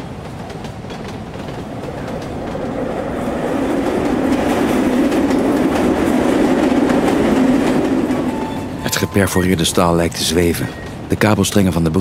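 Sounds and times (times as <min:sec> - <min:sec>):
train rumbling across steel bridge: 0:00.0 - 0:12.0
train wheels clattering: 0:00.0 - 0:12.0.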